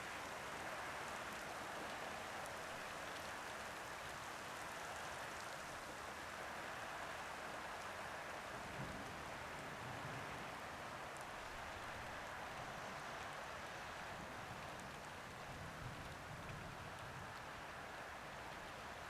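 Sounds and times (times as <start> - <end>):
soft rain on a roof: 0.0 - 19.0
ticks of raindrops: 0.0 - 19.0.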